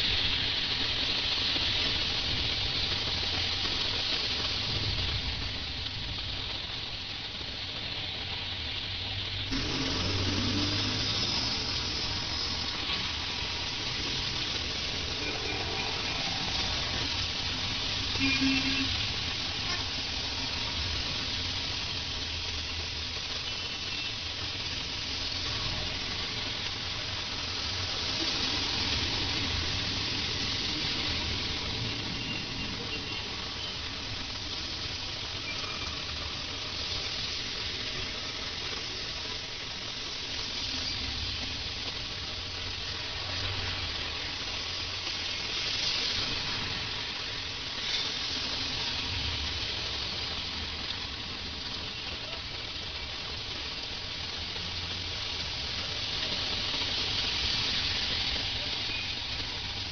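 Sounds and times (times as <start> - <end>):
heavy rain on wet road: 0.0 - 59.9
low rumble of traffic: 0.0 - 59.9.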